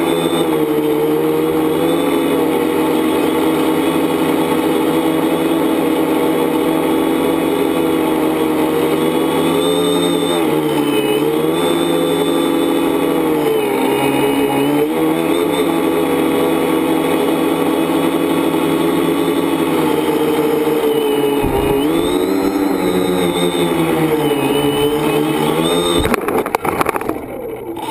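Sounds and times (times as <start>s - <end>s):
drone propellers buzzing: 0.0s - 27.9s.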